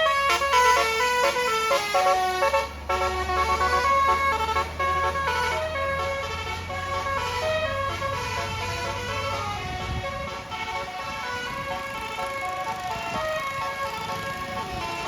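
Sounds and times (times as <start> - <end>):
bus engine hum: 0.0 - 15.0
multi-tone air horn melody: 0.0 - 15.0.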